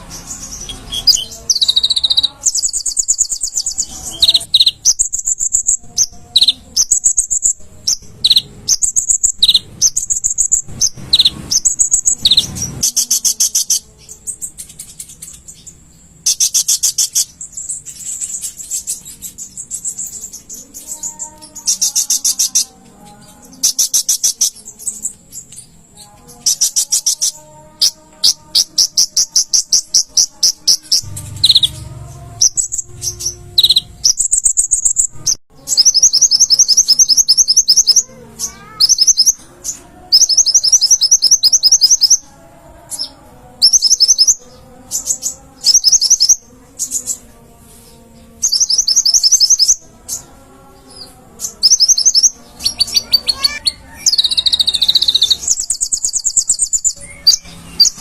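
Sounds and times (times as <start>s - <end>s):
bird trilling song: 0.0s - 58.0s.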